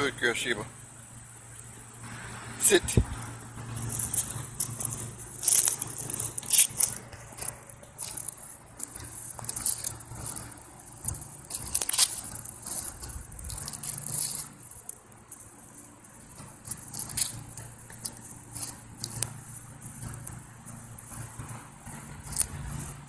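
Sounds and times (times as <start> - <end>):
footsteps on dry leaves: 2.0 - 23.0.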